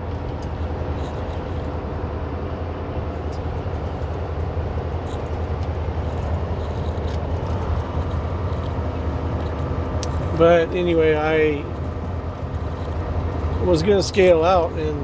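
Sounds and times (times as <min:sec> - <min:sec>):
diesel truck engine drone: 0:00.0 - 0:15.0
road and tyre noise: 0:00.0 - 0:15.0.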